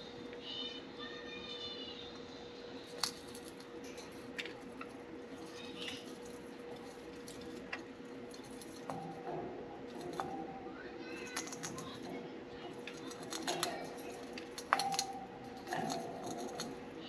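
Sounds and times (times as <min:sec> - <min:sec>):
faint steady hum: 0:00.0 - 0:17.0
birds chewing wooden toy: 0:02.8 - 0:17.0.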